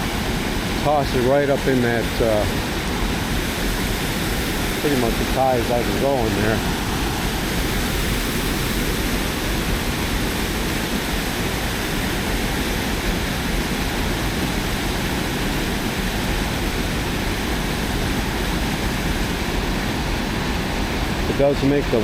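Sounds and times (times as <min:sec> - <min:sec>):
river water churning: 0:00.0 - 0:22.0.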